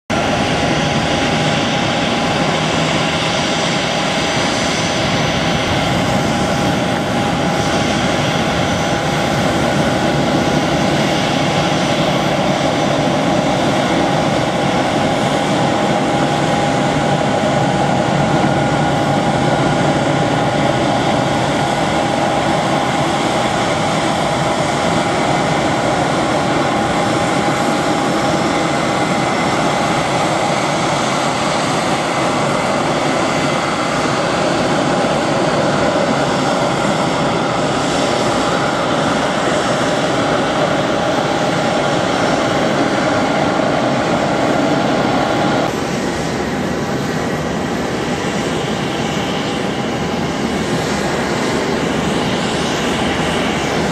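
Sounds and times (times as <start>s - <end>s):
jet engines rumbling and whining: 0.0s - 53.9s.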